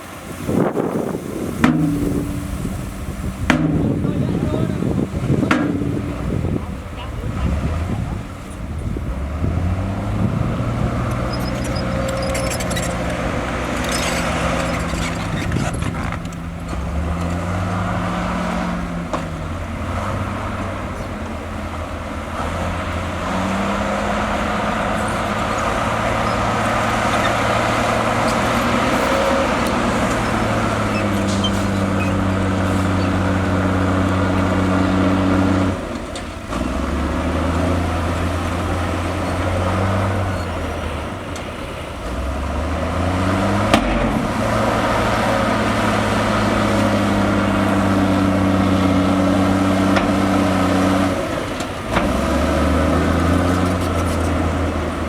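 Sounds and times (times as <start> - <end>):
heavy diesel engine working: 0.0 - 55.0.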